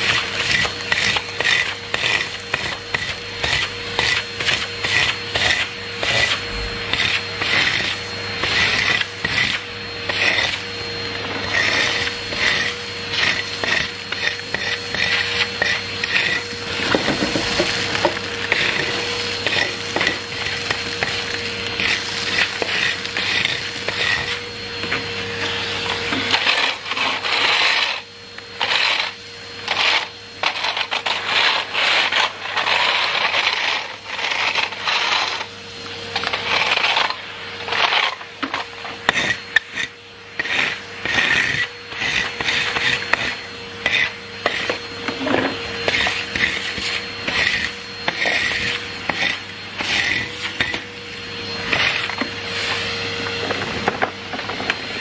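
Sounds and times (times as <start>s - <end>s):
floor tool scraping concrete: 0.0s - 55.0s
vacuum cleaner whining: 0.0s - 55.0s.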